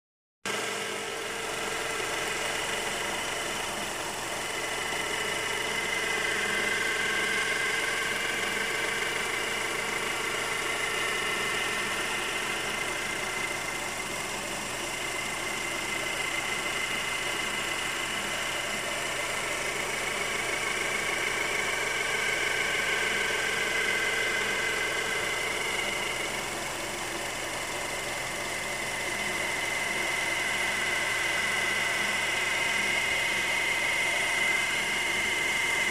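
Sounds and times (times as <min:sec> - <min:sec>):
high-pitched engine whine: 0:00.5 - 0:35.9
car engine idling: 0:00.6 - 0:35.9.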